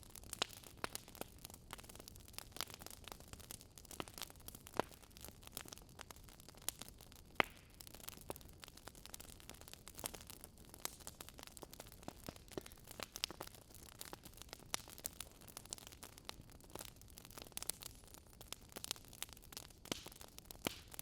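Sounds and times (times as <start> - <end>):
burning logs popping and snapping: 0.1 - 21.0.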